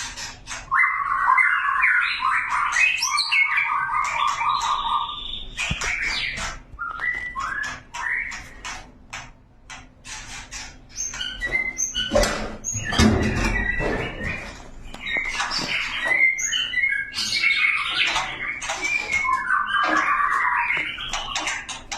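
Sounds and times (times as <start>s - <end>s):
songbird chirping and whistling: 0.0s - 8.8s, 10.5s - 21.8s.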